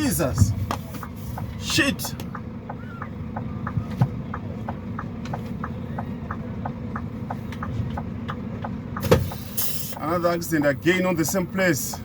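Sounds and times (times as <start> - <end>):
car engine idling: 0.0 - 12.0
indicator relay ticking: 1.3 - 12.0.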